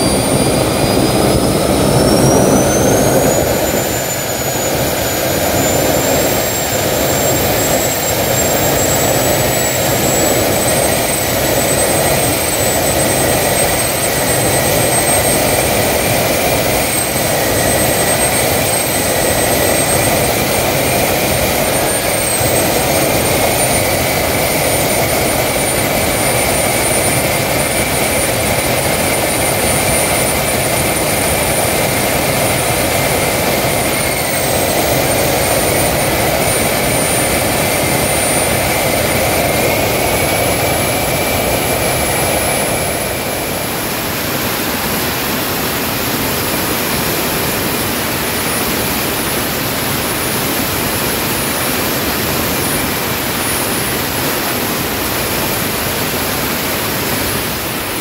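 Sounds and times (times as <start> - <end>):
rushing combustion noise: 0.0 - 58.0
turbine whine: 0.0 - 58.0.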